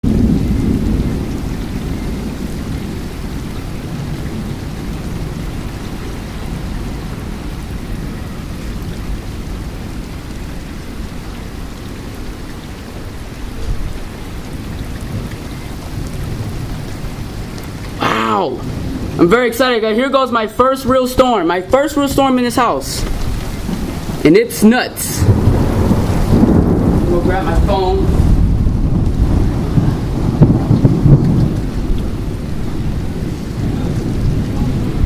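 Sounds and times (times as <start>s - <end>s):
low rumble of thunder: 0.0s - 20.6s, 21.2s - 24.3s, 25.1s - 35.0s
heavy rain falling: 0.0s - 35.0s.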